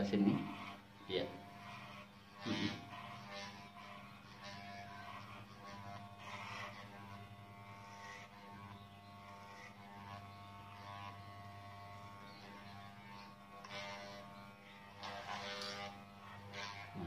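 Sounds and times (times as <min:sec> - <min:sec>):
clipper blades rasping through hair: 0:00.0 - 0:17.0
electric hair clipper buzzing: 0:00.0 - 0:17.0.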